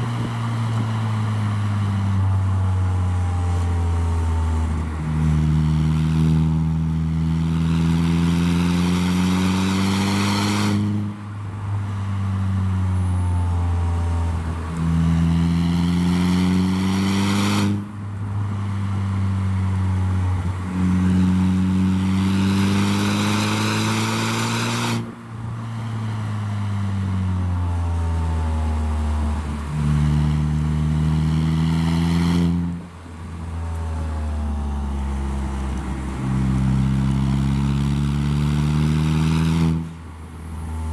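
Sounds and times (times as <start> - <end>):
car engine accelerating through upshifts: 0.0 - 40.9.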